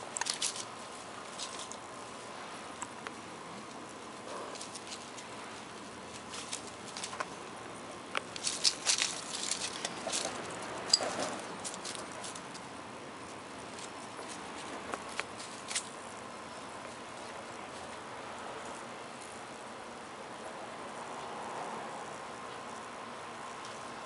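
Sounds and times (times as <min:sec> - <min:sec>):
kittens scampering on dry leaves: 0:00.0 - 0:19.7.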